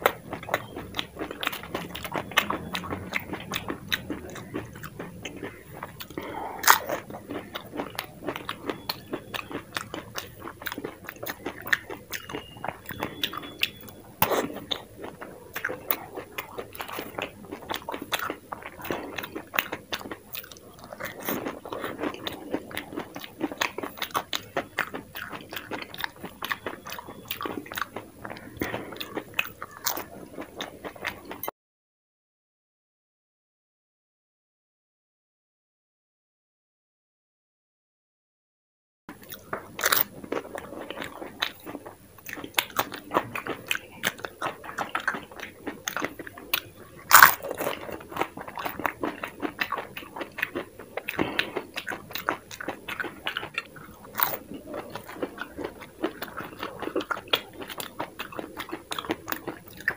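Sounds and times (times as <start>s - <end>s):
crunching and wet chewing: 0.0s - 31.5s, 39.1s - 59.9s.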